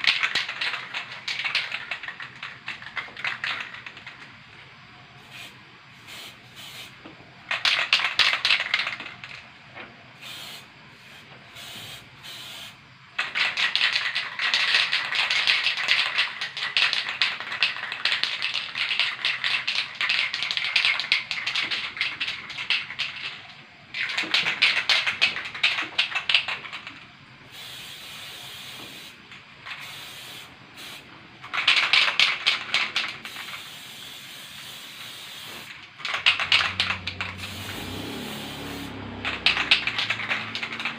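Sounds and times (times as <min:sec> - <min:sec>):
spray paint can hissing: 0:00.0 - 0:04.3, 0:05.2 - 0:09.4, 0:10.2 - 0:40.9.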